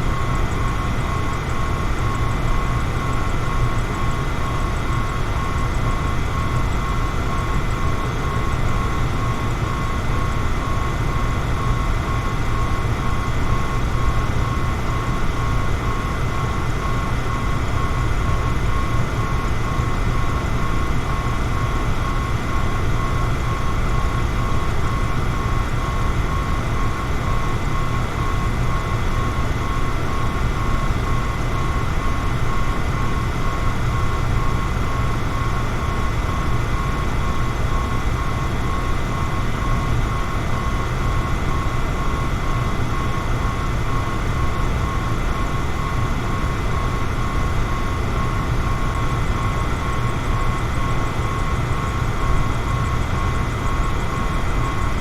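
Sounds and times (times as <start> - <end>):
faint motor whine: 0.0 - 55.0.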